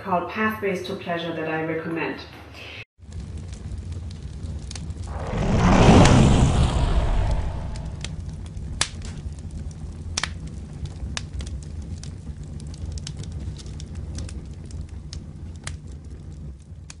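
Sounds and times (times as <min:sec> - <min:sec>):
fire rumbling and crackling: 0:03.0 - 0:17.0.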